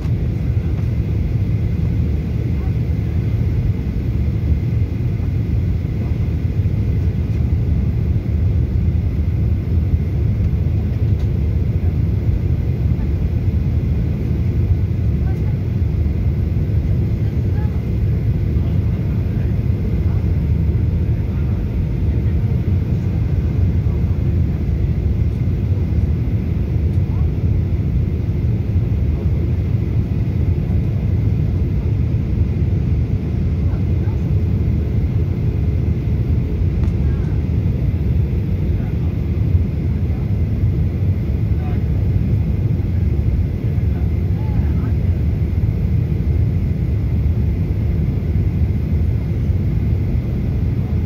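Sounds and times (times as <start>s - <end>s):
jet airliner cabin rumble: 0.0s - 51.0s.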